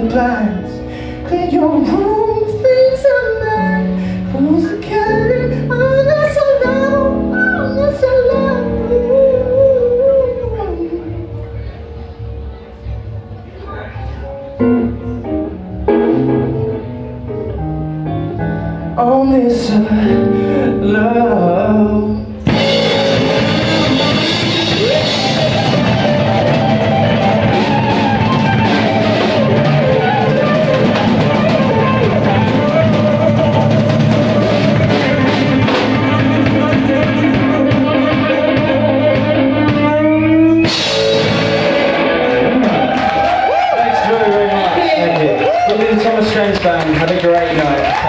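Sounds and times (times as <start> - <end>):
live rock band playing: 0.0 - 48.0.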